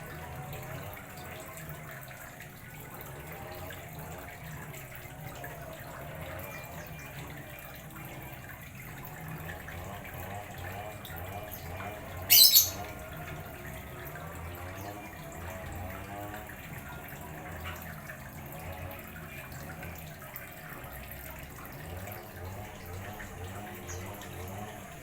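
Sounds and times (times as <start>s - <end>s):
water trickling into pond: 0.0s - 25.0s.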